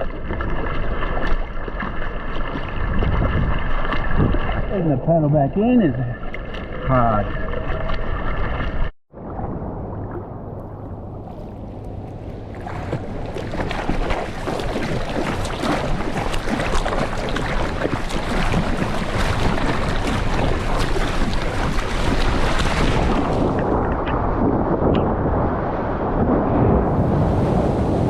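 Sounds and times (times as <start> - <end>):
water splashing from paddling: 0.0 - 4.9, 6.0 - 9.4, 10.0 - 25.2.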